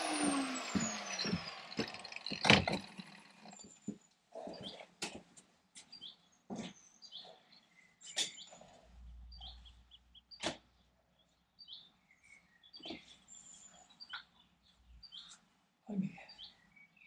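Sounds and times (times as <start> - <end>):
small birds chirping: 0.0 - 4.9, 5.8 - 17.0.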